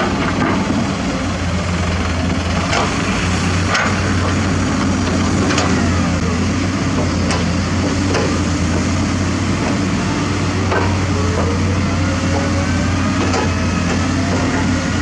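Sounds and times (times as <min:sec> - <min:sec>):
diesel machinery engine hum: 0:00.0 - 0:15.0.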